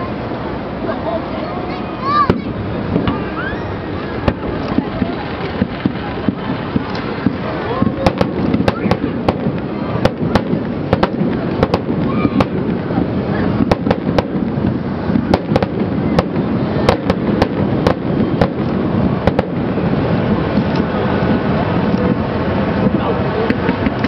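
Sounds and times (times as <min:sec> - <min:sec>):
crowd chatter: 0:00.0 - 0:24.0
fireworks bursting: 0:00.0 - 0:24.0.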